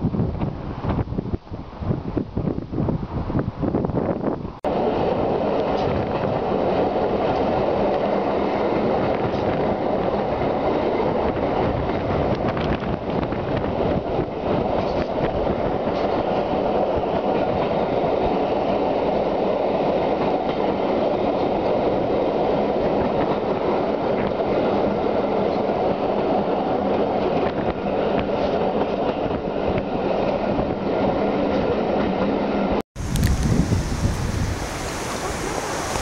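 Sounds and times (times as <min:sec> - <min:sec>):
train wheels rumbling on track: 0:04.1 - 0:36.0.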